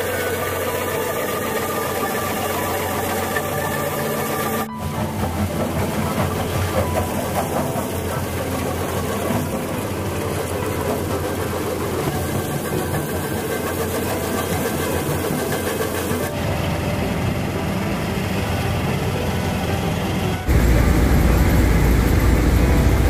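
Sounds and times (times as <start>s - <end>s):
machinery droning: 0.0s - 23.0s.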